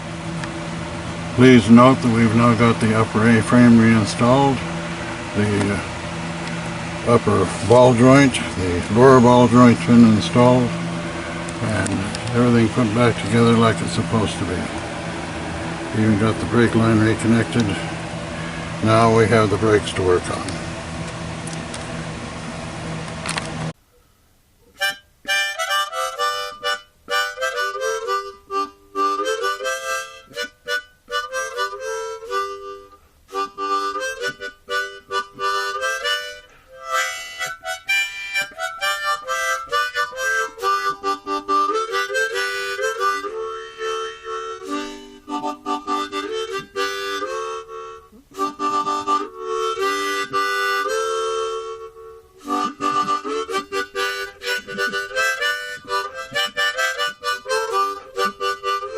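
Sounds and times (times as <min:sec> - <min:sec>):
harmonica melody: 0:00.0 - 0:21.6, 0:24.7 - 0:58.9.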